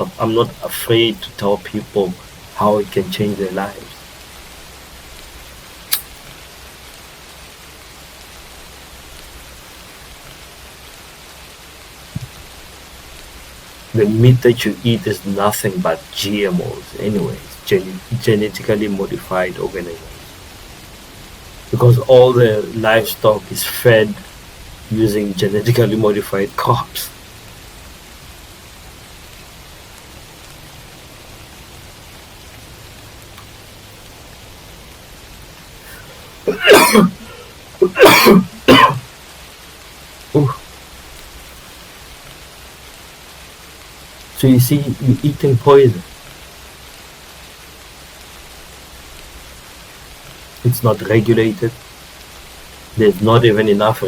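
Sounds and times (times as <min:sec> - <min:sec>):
faint low hum: 0:00.0 - 0:54.0
steady background hiss: 0:00.0 - 0:54.0.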